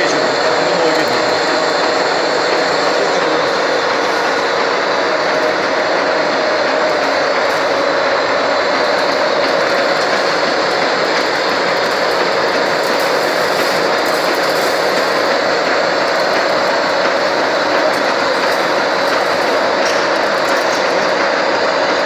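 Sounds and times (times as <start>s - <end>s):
machine tool running: 0.0s - 22.0s.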